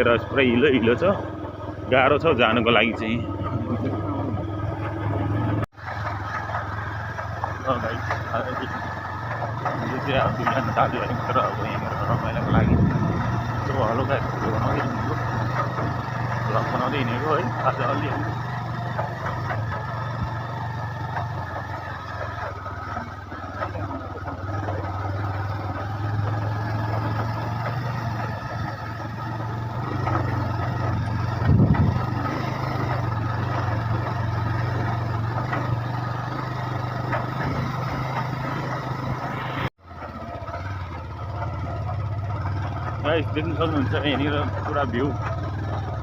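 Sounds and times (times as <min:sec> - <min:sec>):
vehicle engine on dirt road: 0:00.0 - 0:46.0.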